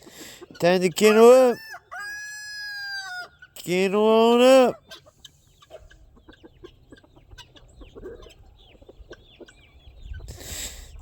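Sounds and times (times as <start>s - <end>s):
chickens and guinea fowl clucking: 0.0s - 11.0s.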